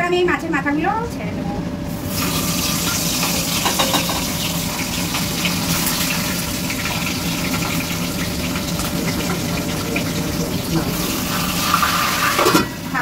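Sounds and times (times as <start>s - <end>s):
fish frying in oil: 2.0s - 13.0s.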